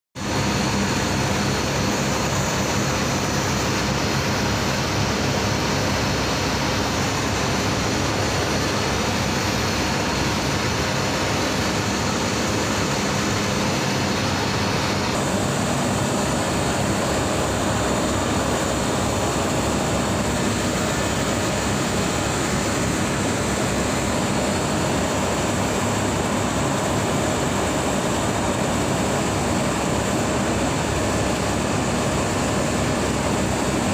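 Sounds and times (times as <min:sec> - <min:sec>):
machinery fan hum and whir: 0:00.2 - 0:33.9.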